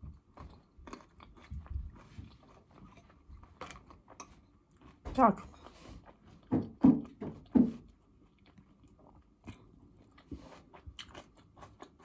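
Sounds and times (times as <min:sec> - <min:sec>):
chewing crunchy salad: 0:00.0 - 0:12.0.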